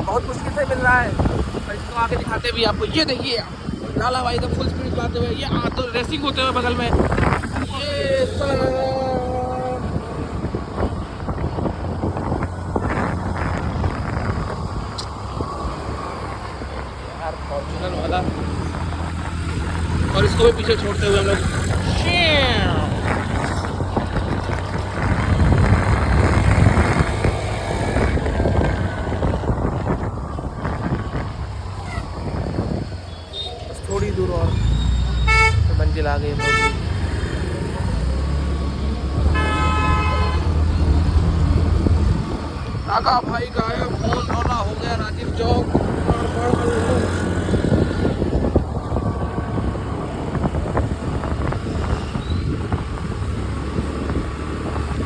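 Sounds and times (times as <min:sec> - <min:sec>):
road noise: 0:00.0 - 0:55.0
wind buffeting microphone: 0:00.0 - 0:55.0.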